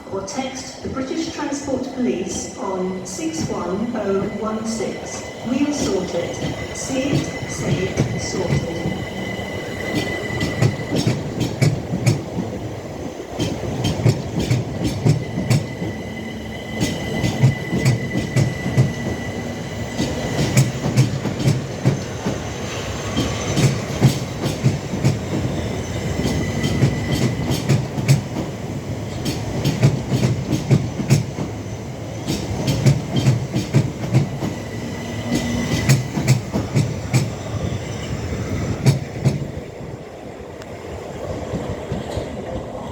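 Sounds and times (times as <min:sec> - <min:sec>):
train rumble: 0:00.0 - 0:42.9
train wheels clicking over joints: 0:03.4 - 0:39.7.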